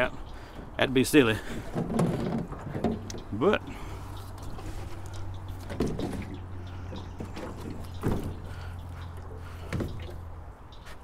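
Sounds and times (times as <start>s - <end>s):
water sloshing against boat hull: 1.4s - 11.0s.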